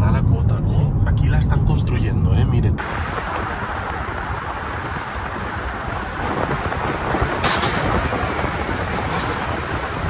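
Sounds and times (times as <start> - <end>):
wind and tyre noise inside car: 0.0 - 10.0.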